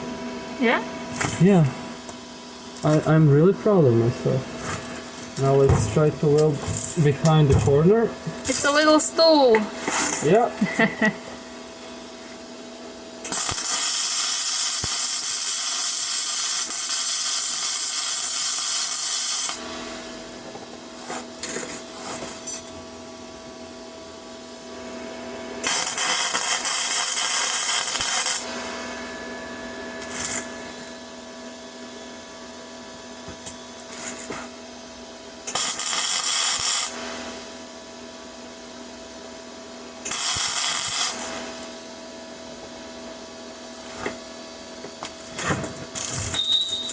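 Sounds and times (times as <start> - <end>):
welder hum: 0.0 - 46.9
arc welding crackle: 1.1 - 22.8, 25.5 - 29.2, 29.9 - 31.2, 33.4 - 34.7, 35.3 - 37.8, 38.9 - 42.9, 43.7 - 46.9.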